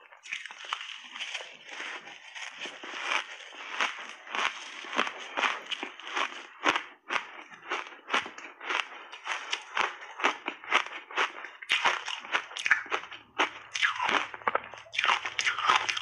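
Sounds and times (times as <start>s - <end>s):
ice chunks being chewed: 0.0s - 16.0s.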